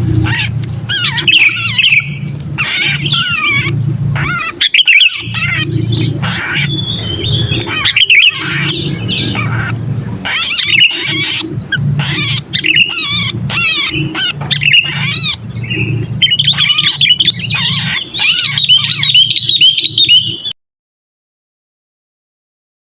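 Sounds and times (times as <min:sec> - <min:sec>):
bulbuls chattering: 0:00.0 - 0:20.5
steady low hum: 0:00.0 - 0:20.5.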